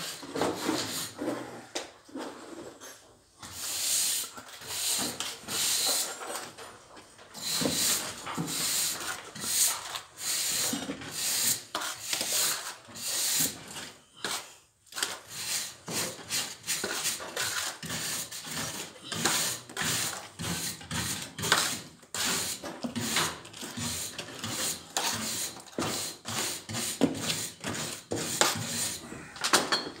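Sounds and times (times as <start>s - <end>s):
hand tool scraping wooden boards: 0.0s - 2.8s, 3.4s - 6.7s, 7.3s - 29.3s.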